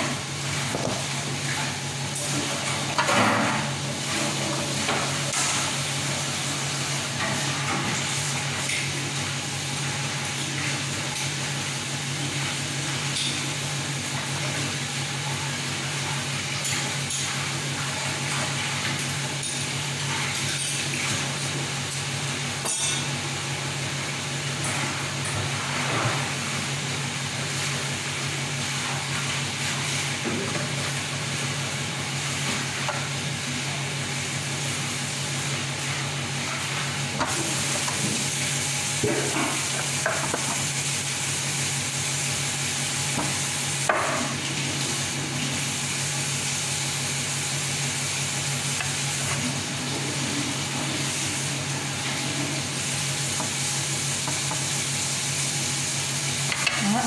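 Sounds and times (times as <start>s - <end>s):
machine hum with fan noise: 0.0s - 57.0s.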